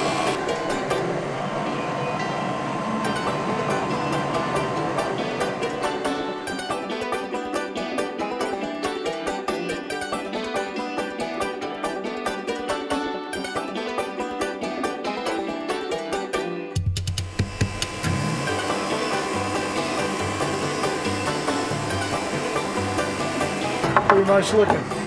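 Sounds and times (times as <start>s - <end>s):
upbeat country banjo music: 0.0s - 1.9s, 3.0s - 25.0s.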